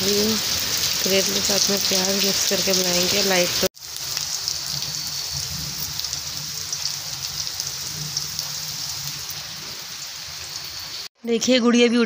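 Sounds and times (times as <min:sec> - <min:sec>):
vegetables sizzling in hot oil: 0:00.0 - 0:11.1.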